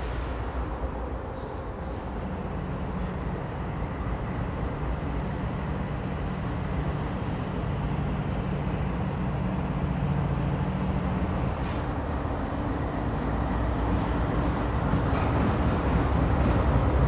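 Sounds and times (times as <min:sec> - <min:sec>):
diesel locomotive engines droning: 0:00.0 - 0:17.0.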